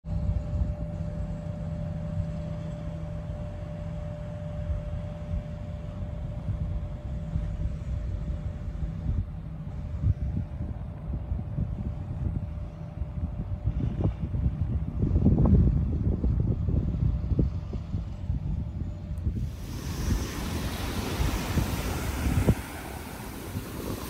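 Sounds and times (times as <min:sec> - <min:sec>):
mechanical hum: 0:00.1 - 0:24.0
low uneven rumble: 0:04.5 - 0:24.0.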